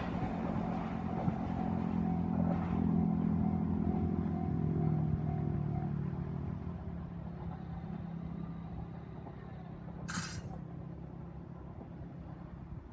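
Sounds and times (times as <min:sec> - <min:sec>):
diesel train engine: 0:00.0 - 0:12.9.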